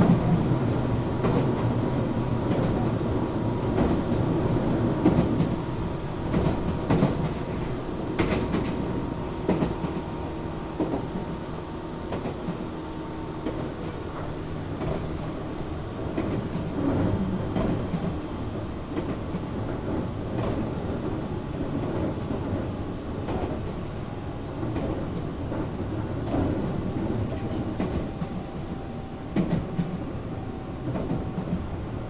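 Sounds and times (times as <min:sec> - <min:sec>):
train running rumble: 0:00.0 - 0:32.0.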